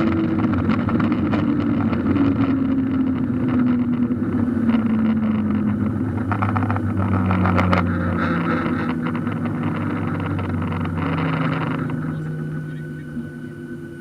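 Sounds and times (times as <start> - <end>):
aircraft cabin roar: 0.0 - 14.0
jet engine tone sliding down: 0.0 - 14.0
light rattles: 0.0 - 14.0.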